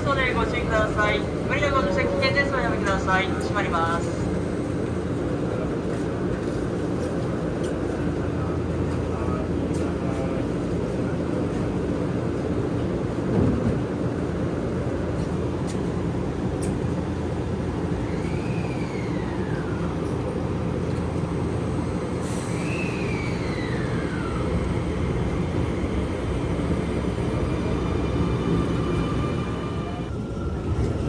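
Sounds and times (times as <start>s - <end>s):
train running hum: 0.0s - 31.0s.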